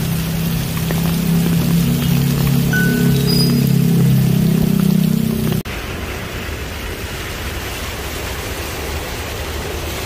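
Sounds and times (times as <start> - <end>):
passing traffic: 0.0 - 10.0
rain hissing: 0.0 - 10.0.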